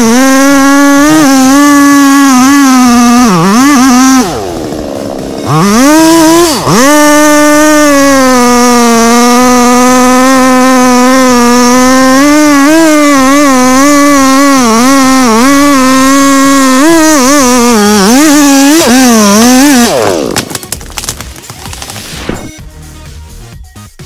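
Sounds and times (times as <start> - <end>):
chainsaw cutting wood: 0.0 - 22.6.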